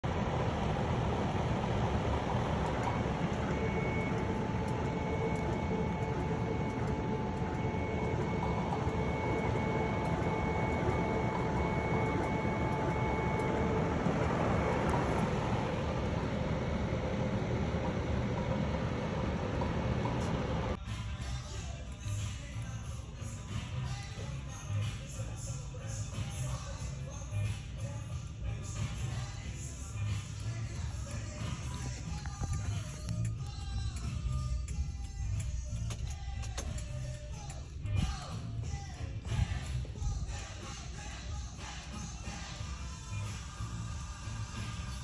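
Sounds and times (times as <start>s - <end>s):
fan-like rush with hum: 0.0s - 45.0s.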